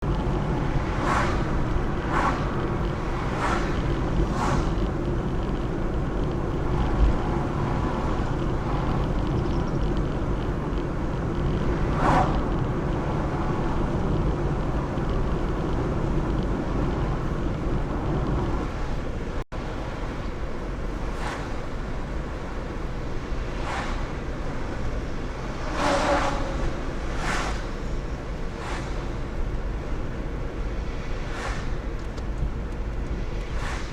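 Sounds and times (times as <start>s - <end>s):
low outdoor rumble: 0.0s - 33.9s.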